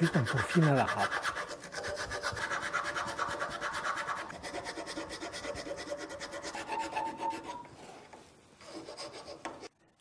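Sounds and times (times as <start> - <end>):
wood rasp filing: 0.0 - 7.7, 8.6 - 9.7.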